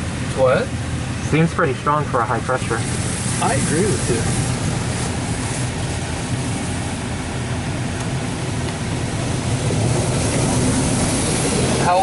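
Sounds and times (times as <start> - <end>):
low hum: 0.0 - 12.0
water jets spraying against car: 0.0 - 12.0.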